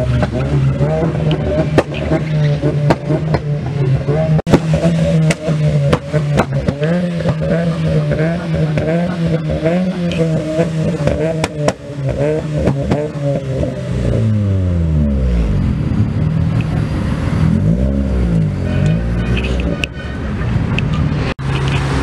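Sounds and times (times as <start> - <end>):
car engine revving high: 0.0 - 20.0.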